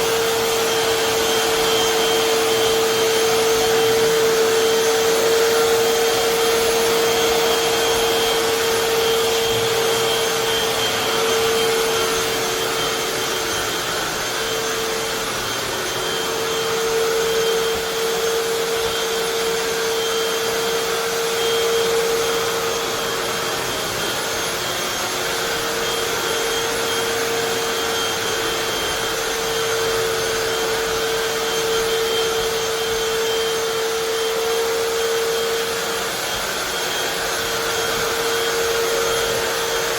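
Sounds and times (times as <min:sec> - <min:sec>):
floor cleaner running: 0:00.0 - 0:39.9.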